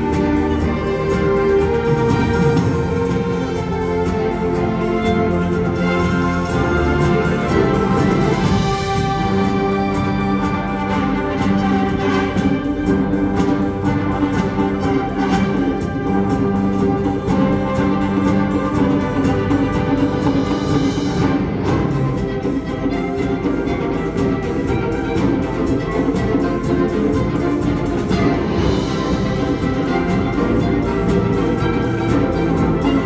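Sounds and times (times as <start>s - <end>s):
wind band sustained chords: 0.0s - 33.0s.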